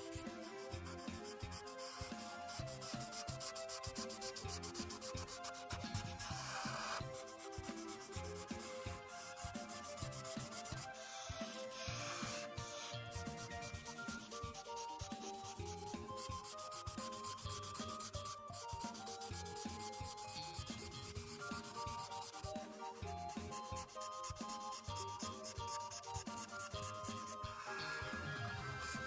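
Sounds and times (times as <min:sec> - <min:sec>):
marker rubbing on paper: 0:00.0 - 0:29.0.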